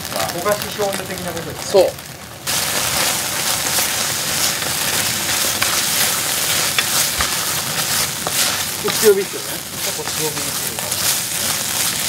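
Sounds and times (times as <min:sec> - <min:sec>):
food sizzling in frying pan: 0:00.0 - 0:12.0
popping in pan: 0:00.0 - 0:12.0.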